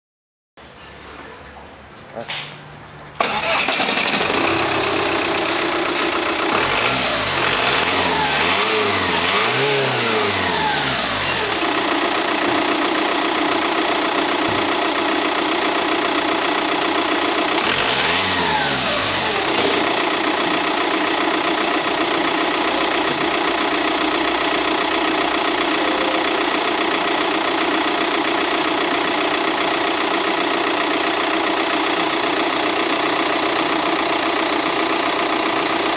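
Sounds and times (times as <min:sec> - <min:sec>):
diesel engine idling and revving: 0:02.7 - 0:35.9.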